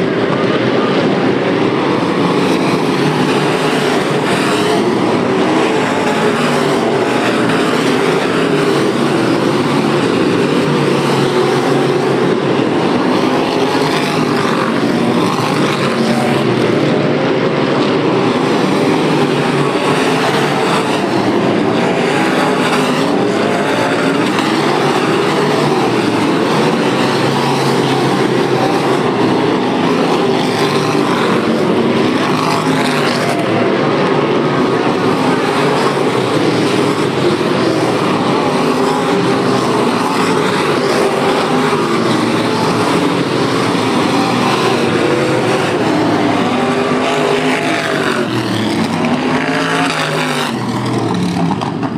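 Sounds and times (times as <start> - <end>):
race car engines: 0.0 - 51.9.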